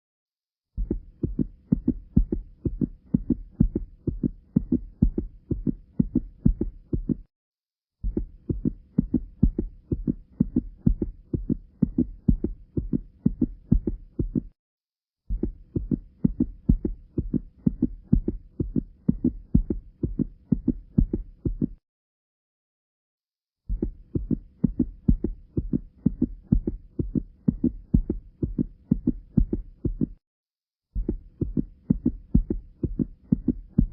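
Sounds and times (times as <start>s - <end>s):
heartbeats through stethoscope: 0.7s - 7.3s, 8.0s - 14.6s, 15.3s - 21.8s, 23.6s - 30.2s, 30.9s - 33.9s
heart murmur: 0.8s - 7.3s, 8.0s - 14.6s, 15.3s - 21.8s, 23.7s - 30.2s, 30.9s - 33.9s.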